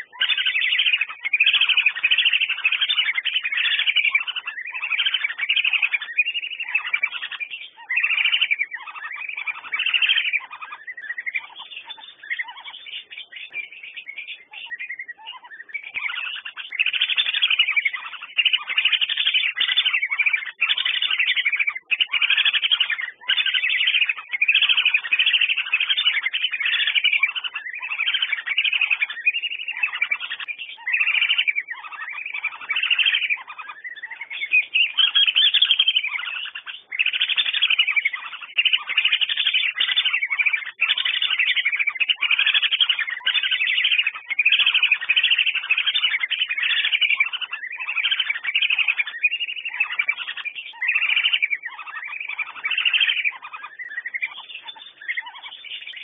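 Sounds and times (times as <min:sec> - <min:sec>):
ducks whistling: 0:00.0 - 0:56.0.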